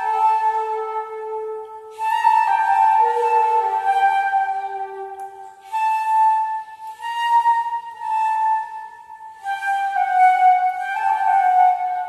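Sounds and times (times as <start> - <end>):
flute playing slow melody: 0.0 - 12.0.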